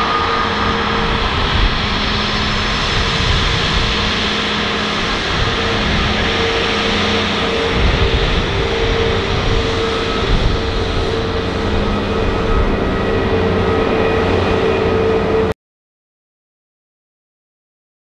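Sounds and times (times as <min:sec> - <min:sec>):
jet engines whining: 0:00.0 - 0:15.5.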